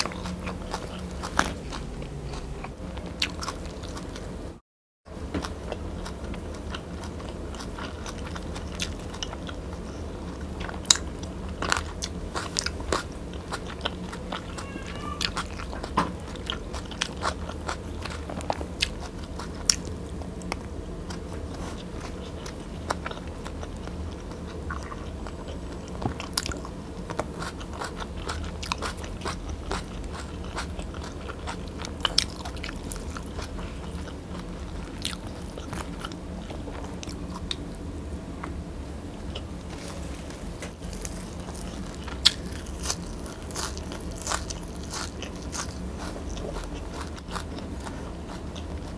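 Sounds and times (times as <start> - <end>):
chewing and biting: 5.4 - 14.6, 15.2 - 37.6, 40.8 - 48.9.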